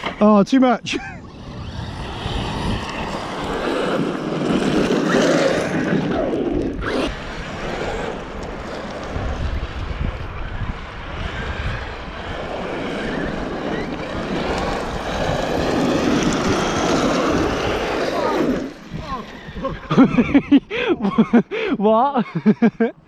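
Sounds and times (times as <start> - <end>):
wind noise on microphone: 0.8 - 21.4
rc trucks driving over stony ground: 1.1 - 20.2.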